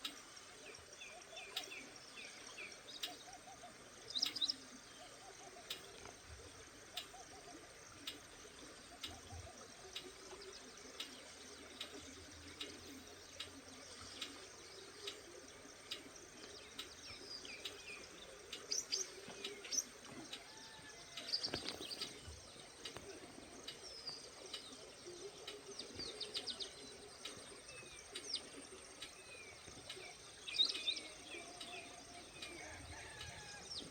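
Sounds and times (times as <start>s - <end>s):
bird chirping: 0.6s - 6.1s, 7.0s - 33.9s
faint regular ticking: 5.6s - 33.8s.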